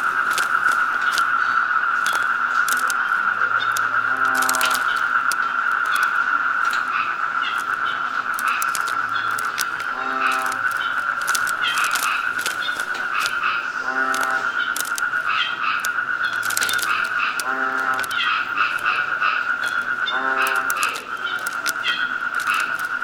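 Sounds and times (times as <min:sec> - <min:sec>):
footsteps crunching through leaf litter: 0:00.0 - 0:23.0
frog croaking: 0:00.0 - 0:23.0
insect chorus: 0:00.0 - 0:23.0.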